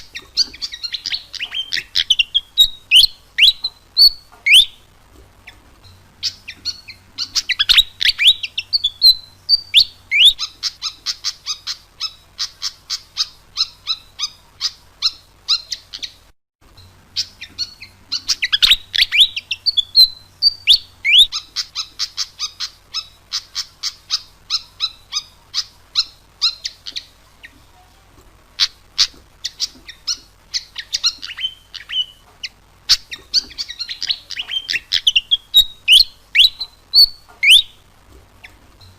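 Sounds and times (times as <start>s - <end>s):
bird singing: 0.0s - 4.9s, 5.5s - 16.2s, 16.8s - 27.6s, 28.6s - 38.9s.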